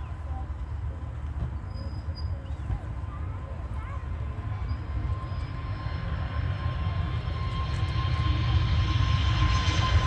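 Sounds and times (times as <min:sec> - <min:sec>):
jet engine rumble and whine: 0:00.0 - 0:10.0.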